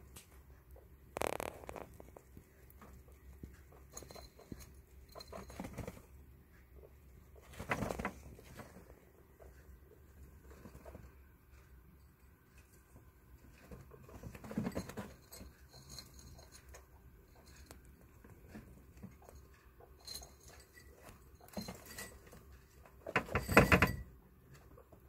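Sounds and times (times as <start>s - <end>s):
guinea pigs shuffling and feeding: 0.0s - 25.0s.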